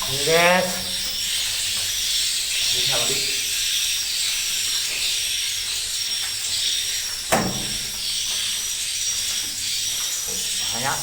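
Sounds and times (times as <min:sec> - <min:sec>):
swiftlets twittering: 0:00.0 - 0:11.0.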